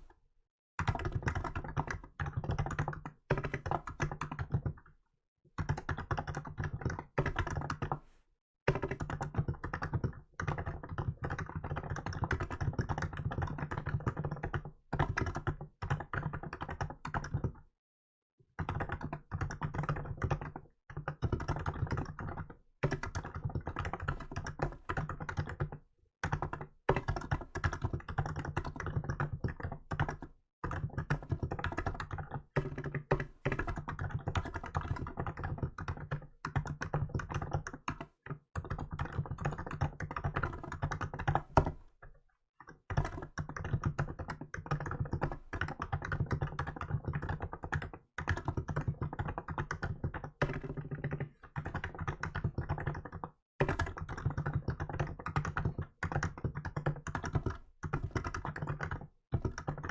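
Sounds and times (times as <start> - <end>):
typing on a keyboard: 0.8 - 5.0, 5.6 - 8.1, 8.7 - 17.7, 18.4 - 59.9.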